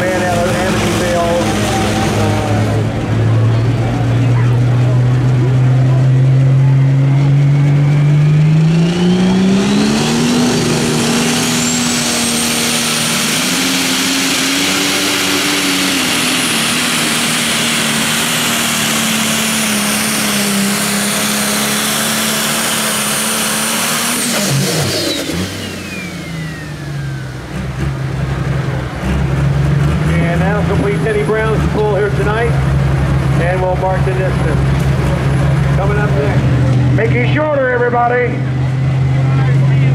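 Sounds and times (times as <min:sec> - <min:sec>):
diesel tractor engine revving: 0:00.0 - 0:39.9
high-pitched turbocharger whine: 0:00.0 - 0:39.9.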